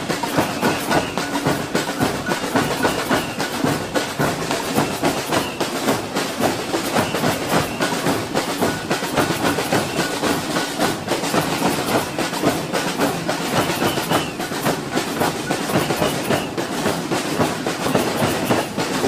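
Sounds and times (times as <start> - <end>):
samba drum band playing: 0.0 - 19.0.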